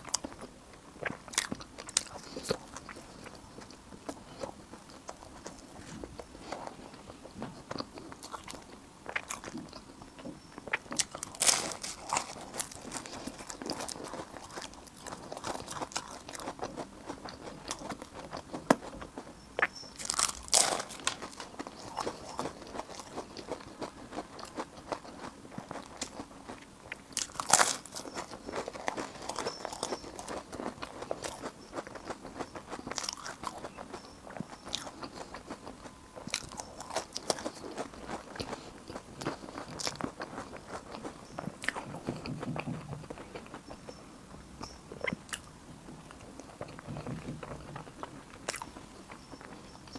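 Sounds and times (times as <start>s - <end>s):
crunchy bites: 0.0s - 44.0s, 44.6s - 49.9s
chewing with wet smacks: 0.0s - 49.9s.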